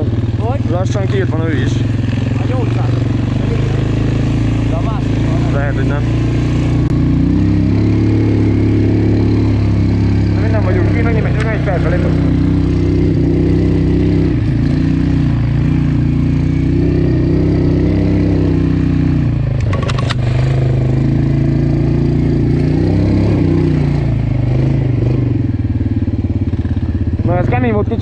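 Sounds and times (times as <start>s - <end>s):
atv engine running: 0.0s - 28.0s.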